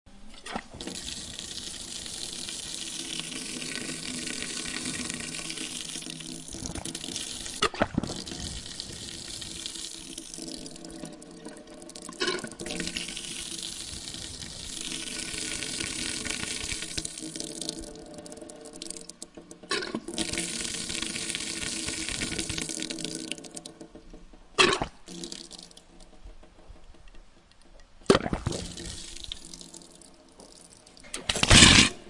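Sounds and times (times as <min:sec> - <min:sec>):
water running from faucet: 0:00.7 - 0:24.0, 0:25.0 - 0:26.0, 0:28.5 - 0:31.0.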